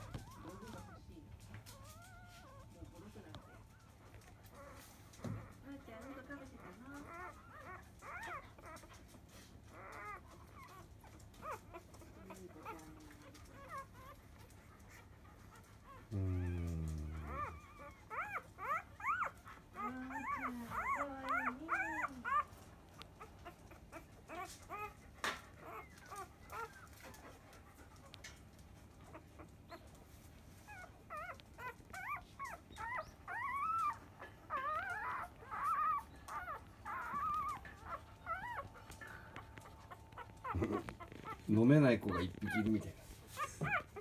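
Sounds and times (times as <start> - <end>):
puppies squeaking and whimpering: 0.0 - 44.0.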